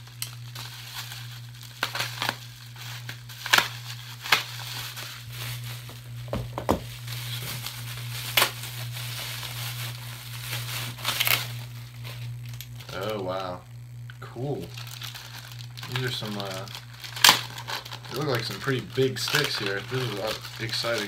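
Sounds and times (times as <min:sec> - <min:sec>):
plastic wrapping crinkling: 0:00.0 - 0:21.0
steady low hum: 0:00.0 - 0:21.0.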